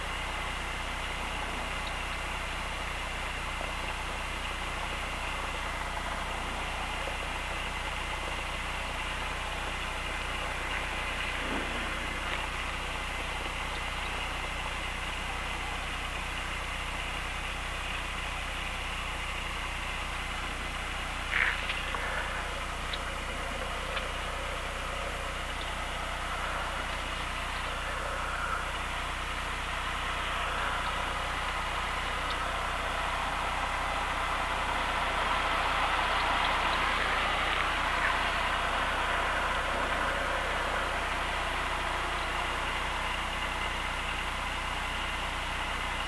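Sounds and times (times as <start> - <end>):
propeller engine idling: 0.0 - 46.0.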